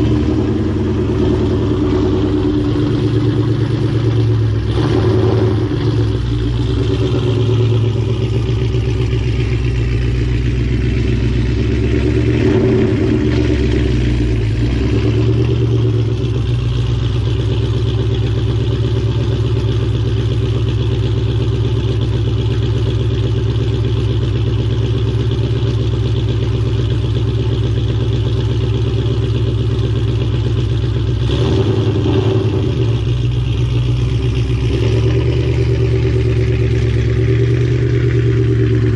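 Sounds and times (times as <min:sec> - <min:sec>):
car engine low drone: 0:00.0 - 0:38.9.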